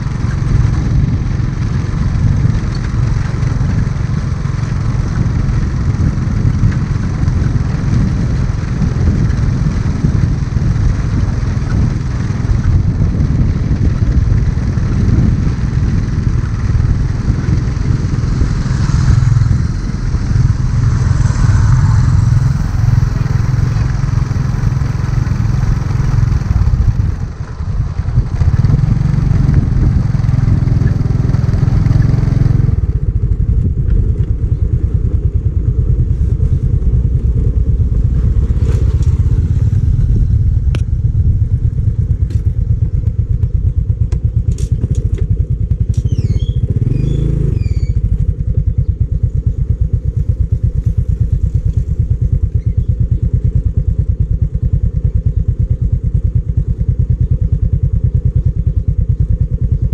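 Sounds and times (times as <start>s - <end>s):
vehicle rumbling on dirt road: 0.0s - 59.9s
wind buffeting microphone: 0.0s - 59.9s.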